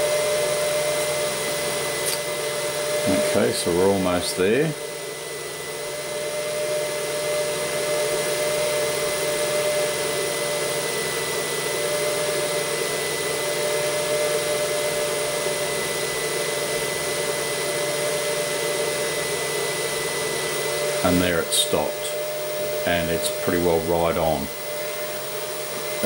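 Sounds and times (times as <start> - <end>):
stepper motor high whine: 0.0 - 26.0.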